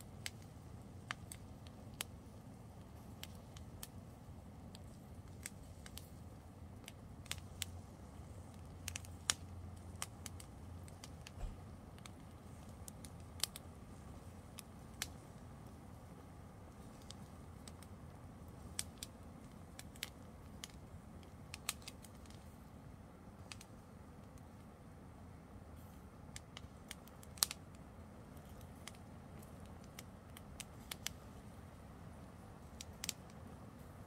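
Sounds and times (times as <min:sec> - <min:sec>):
faint low background noise: 0:00.0 - 0:34.0
fire crackling and popping: 0:00.0 - 0:34.0.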